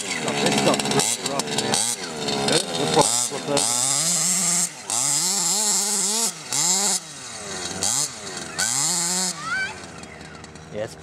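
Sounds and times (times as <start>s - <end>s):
two-stroke engine running rough: 0.0s - 11.0s.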